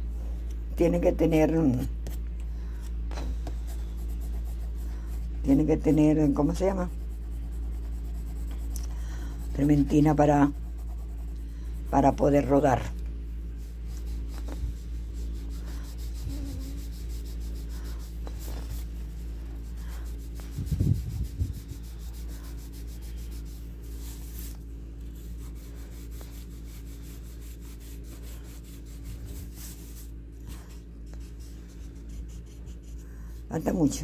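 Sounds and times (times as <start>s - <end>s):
steady low hum: 0.0s - 34.0s
pencil shading on paper: 3.4s - 12.7s, 13.6s - 24.6s, 25.2s - 30.2s, 31.0s - 33.7s.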